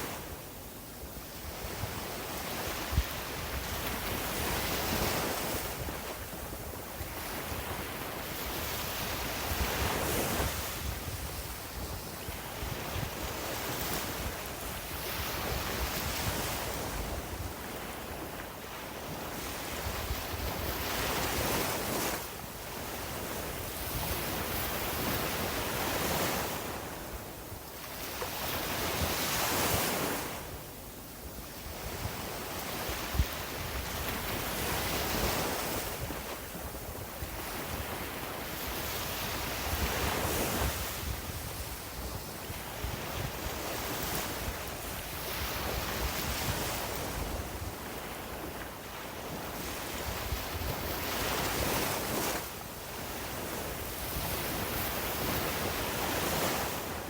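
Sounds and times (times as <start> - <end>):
sea waves breaking on a beach: 0.0 - 57.0
wind rumbling on microphone: 0.0 - 57.0.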